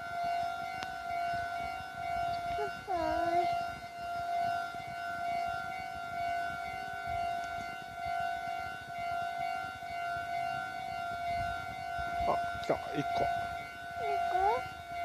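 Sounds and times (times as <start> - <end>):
level crossing warning alarm: 0.0 - 15.0.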